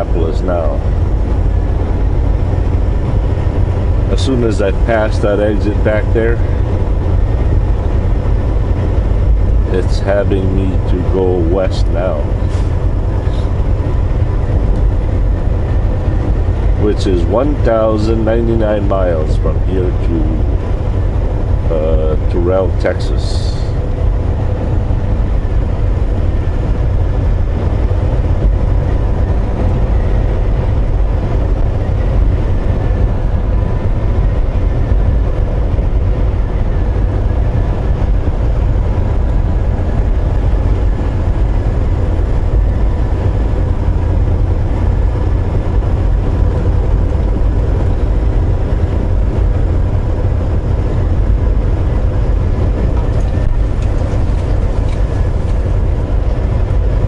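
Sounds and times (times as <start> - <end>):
faint steady hum: 0.0 - 57.0
road noise: 0.0 - 57.0
truck engine drone: 0.0 - 57.0.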